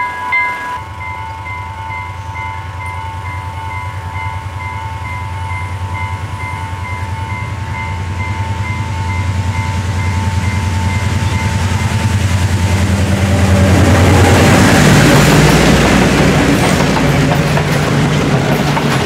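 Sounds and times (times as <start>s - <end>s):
pulsing crossing warning tone: 0.0s - 16.3s
diesel locomotive engine drone: 0.0s - 19.0s.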